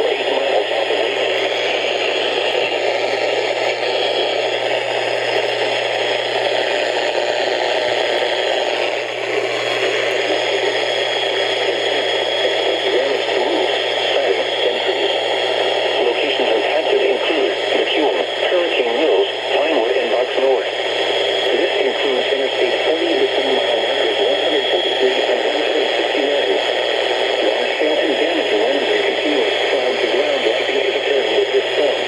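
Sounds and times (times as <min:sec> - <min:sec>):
low hum: 0:00.0 - 0:32.0
radio static hiss: 0:00.0 - 0:32.0.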